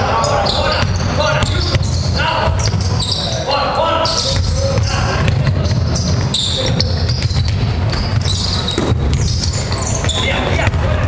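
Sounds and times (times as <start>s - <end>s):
sneakers squeaking: 0.0s - 11.0s
basketball bouncing on court: 0.4s - 3.2s, 4.0s - 11.0s.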